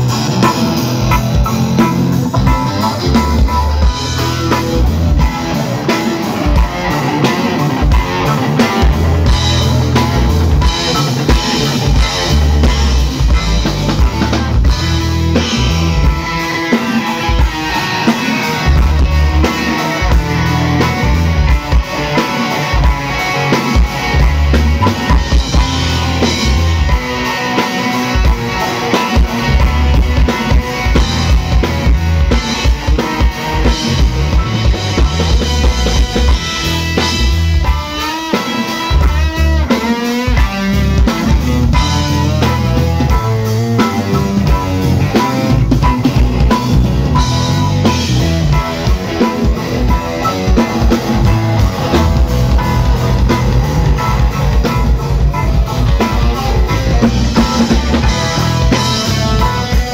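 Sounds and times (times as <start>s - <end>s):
drum kit with kick drum: 0.0s - 59.9s
electric guitar: 0.0s - 59.9s.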